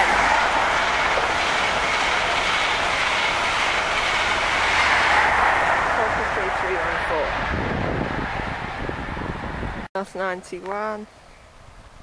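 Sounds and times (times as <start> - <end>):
train passing at speed: 0.0 - 10.5.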